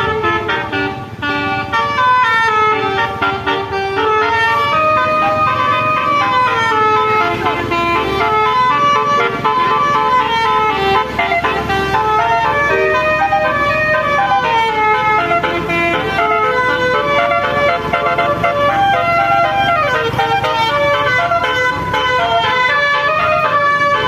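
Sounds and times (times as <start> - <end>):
multi-tone bus air horn melody: 0.0 - 24.0.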